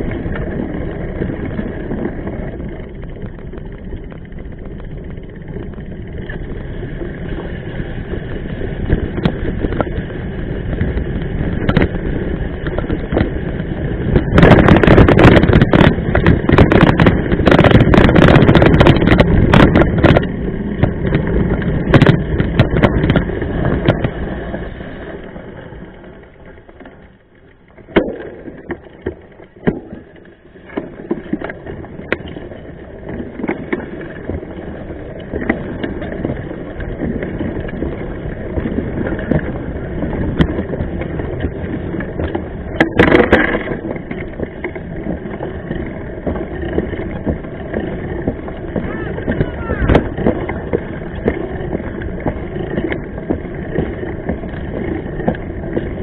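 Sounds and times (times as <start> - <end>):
bike tyre rumbling on gravel: 0.0 - 56.0.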